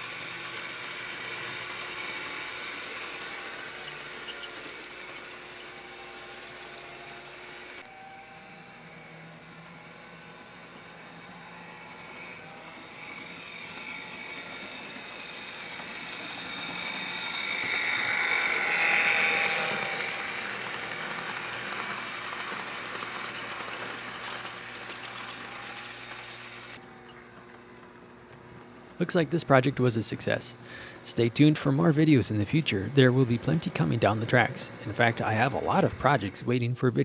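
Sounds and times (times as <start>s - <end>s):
small electric motor humming: 0.0s - 36.4s
model train wheels rolling on rails: 0.0s - 36.5s.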